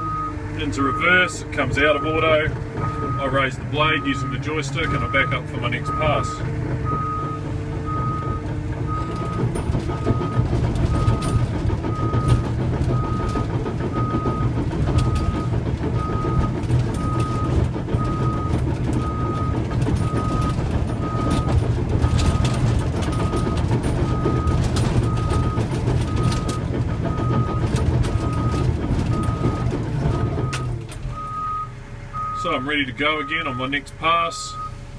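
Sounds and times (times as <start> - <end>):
reverse alarm beeping: 0.0 - 33.8, 34.4 - 34.8
bulldozer diesel engine and tracks: 0.0 - 34.9.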